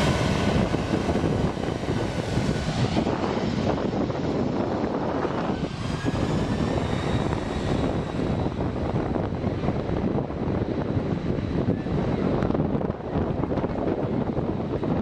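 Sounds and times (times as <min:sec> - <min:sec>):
airliner engine rush and whine: 0:00.0 - 0:15.0
wind on microphone: 0:00.0 - 0:15.0.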